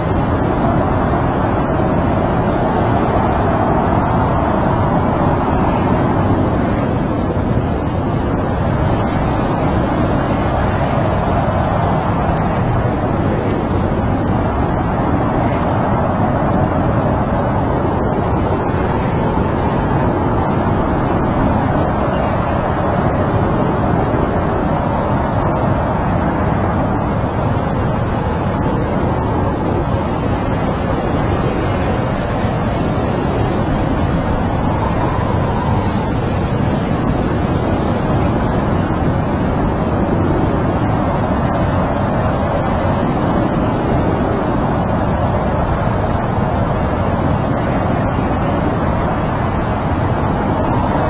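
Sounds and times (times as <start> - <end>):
snowstorm wind rushing: 0.0 - 51.0.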